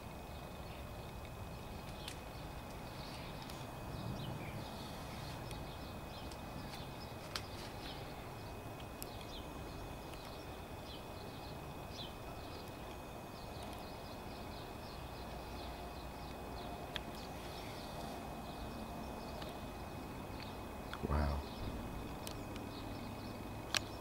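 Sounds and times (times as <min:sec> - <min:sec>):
small birds chirping: 0:00.0 - 0:24.0
steady background hiss: 0:00.0 - 0:24.0.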